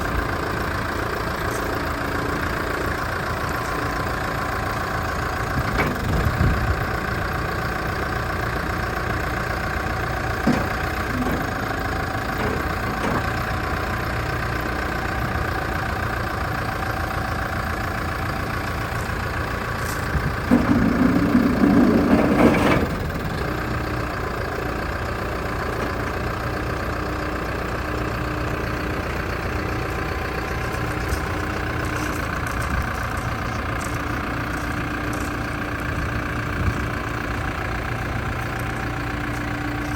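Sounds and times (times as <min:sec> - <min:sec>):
diesel engine idling: 0:00.0 - 0:39.9
engine straining: 0:00.0 - 0:39.9.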